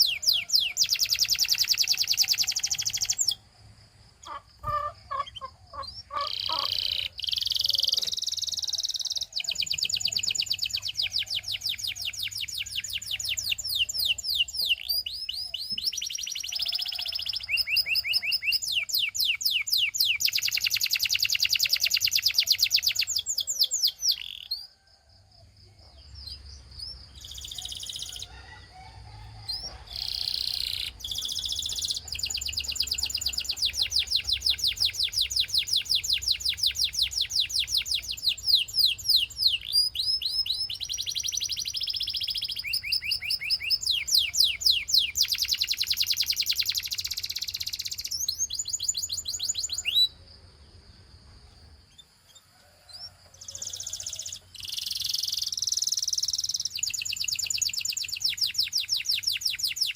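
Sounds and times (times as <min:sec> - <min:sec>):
canary singing trills: 0:00.0 - 0:24.9, 0:25.8 - 0:50.4, 0:51.6 - 0:59.9.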